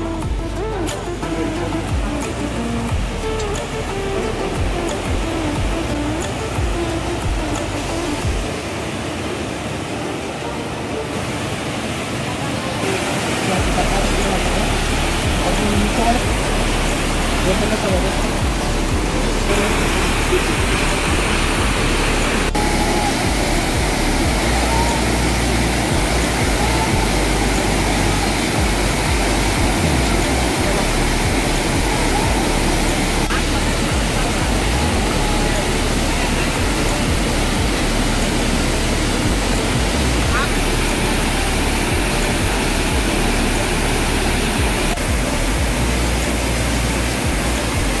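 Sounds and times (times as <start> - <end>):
waterfall rushing over rocks: 0.0 - 48.0.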